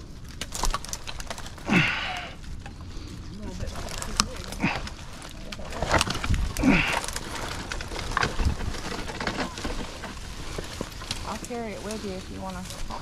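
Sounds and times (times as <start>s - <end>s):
low rumble: 0.0s - 13.0s
wood knocking and crunching: 0.0s - 13.0s.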